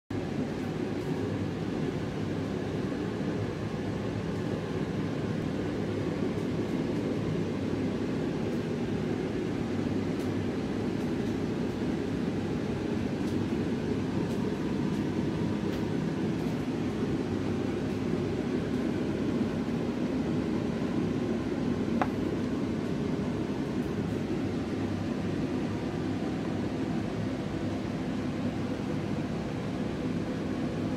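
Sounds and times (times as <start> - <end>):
low rumble and hiss: 0.1 - 30.9.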